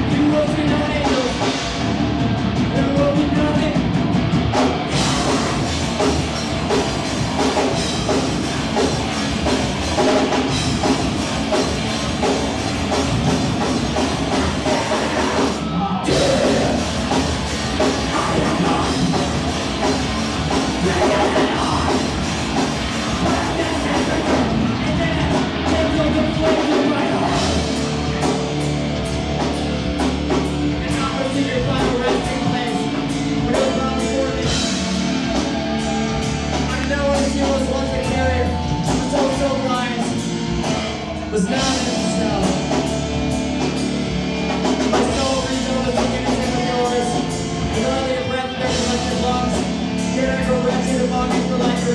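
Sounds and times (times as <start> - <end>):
drum kit: 0.0 - 51.9
live rock band playing: 0.0 - 51.9.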